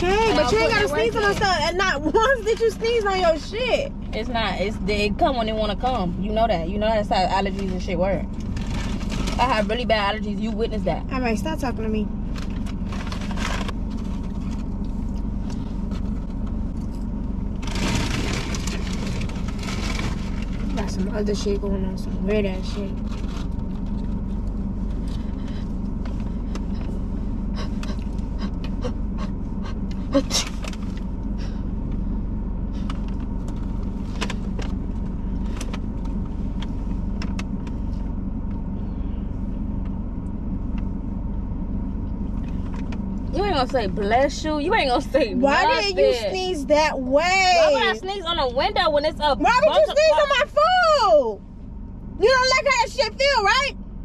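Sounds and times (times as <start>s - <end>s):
car engine humming: 0.0s - 54.0s.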